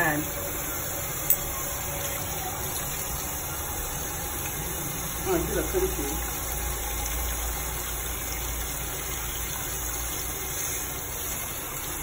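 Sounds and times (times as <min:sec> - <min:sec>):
tap water running into pot: 0:00.8 - 0:12.0.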